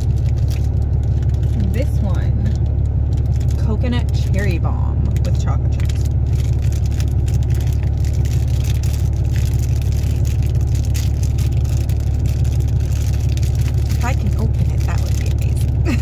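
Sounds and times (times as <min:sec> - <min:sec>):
cookie wrapper crinkling: 0:00.0 - 0:16.0
low motor rumble: 0:00.0 - 0:16.0.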